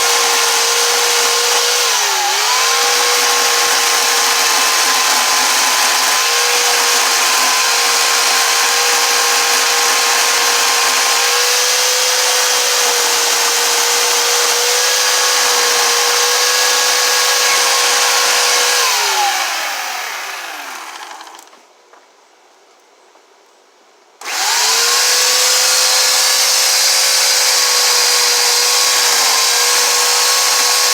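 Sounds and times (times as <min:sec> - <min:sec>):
motor winding down: 0:00.0 - 0:21.5, 0:24.2 - 0:30.9
power tool gouging wood: 0:00.0 - 0:21.5, 0:24.2 - 0:30.9.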